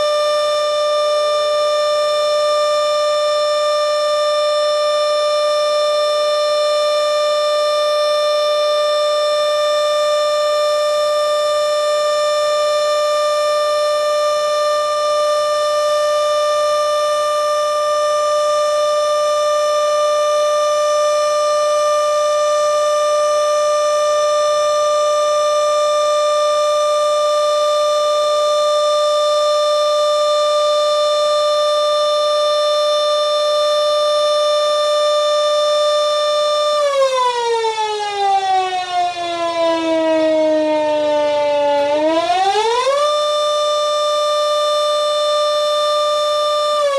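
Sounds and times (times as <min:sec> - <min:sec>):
electric warning siren: 0:00.0 - 0:46.9.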